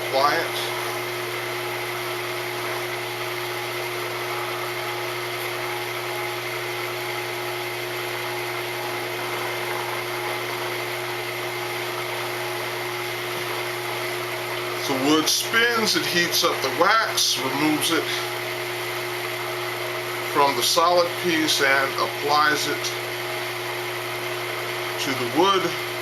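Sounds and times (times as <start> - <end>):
wood lathe humming and whining: 0.0 - 26.0.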